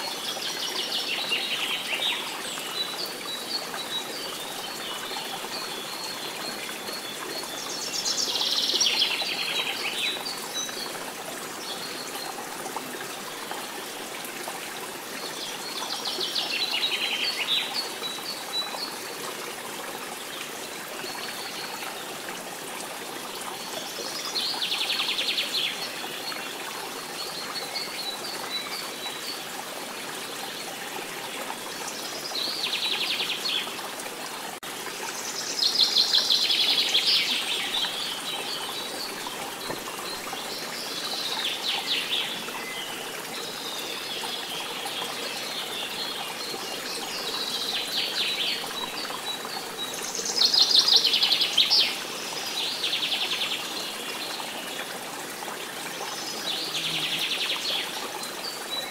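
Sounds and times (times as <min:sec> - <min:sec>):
flowing water: 0:00.0 - 0:58.9.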